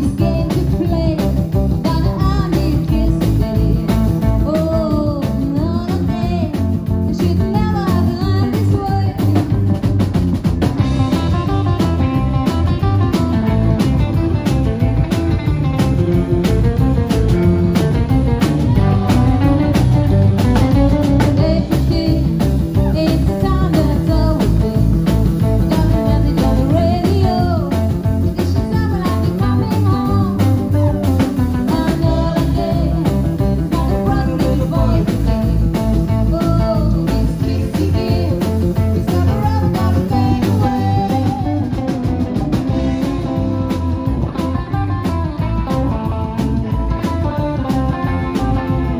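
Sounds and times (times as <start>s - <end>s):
drum kit: 0.0s - 48.9s
electric guitars: 0.0s - 48.9s
upright double bass: 0.0s - 48.9s.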